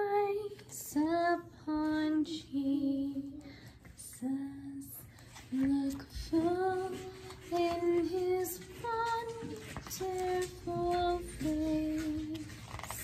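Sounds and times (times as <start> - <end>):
woman and girl singing: 0.0 - 13.0.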